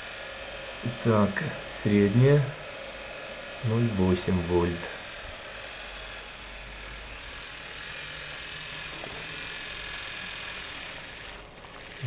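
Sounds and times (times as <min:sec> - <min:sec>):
electric motor running: 0:00.0 - 0:12.0.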